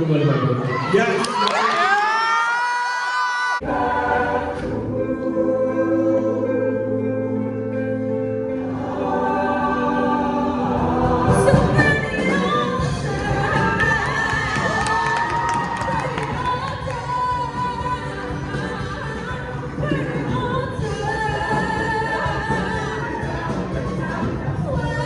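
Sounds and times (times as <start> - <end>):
choir singing in harmony: 3.6 - 25.0.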